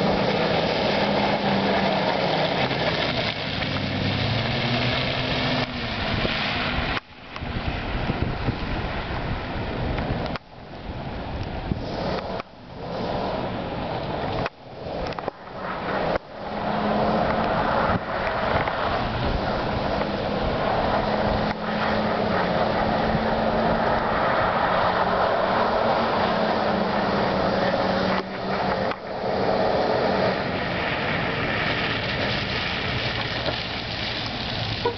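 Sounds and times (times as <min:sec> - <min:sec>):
truck engine revving high: 0:00.0 - 0:10.4, 0:11.0 - 0:34.9
tyres spinning on snow: 0:00.0 - 0:34.9.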